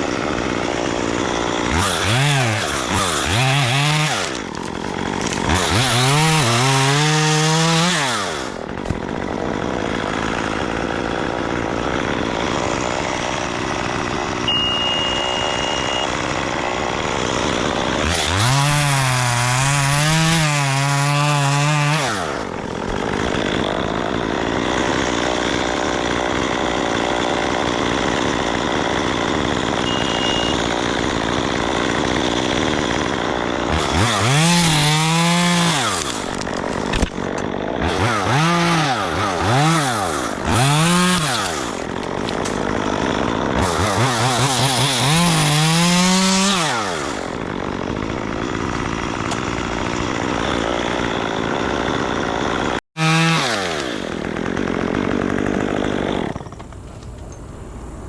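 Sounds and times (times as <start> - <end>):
chainsaw revving: 0.0 - 56.7.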